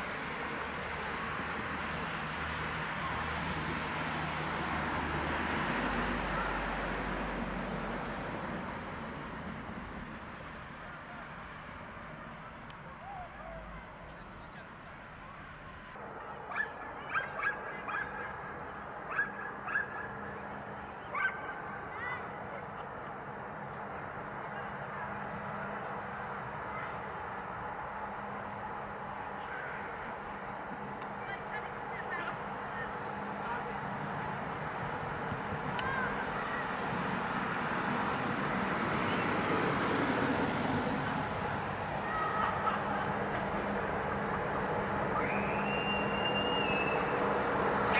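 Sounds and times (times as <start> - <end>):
train running: 0.0 - 13.2, 16.0 - 47.9.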